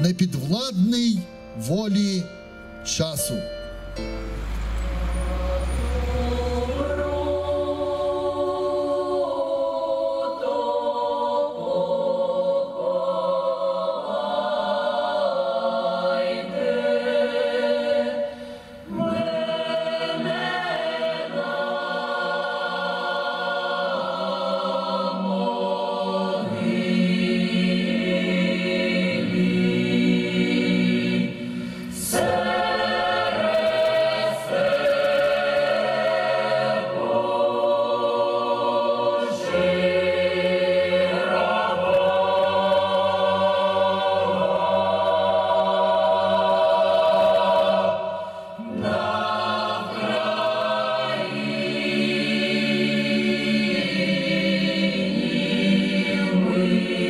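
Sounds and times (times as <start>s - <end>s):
choir singing slow song: 3.4s - 57.0s.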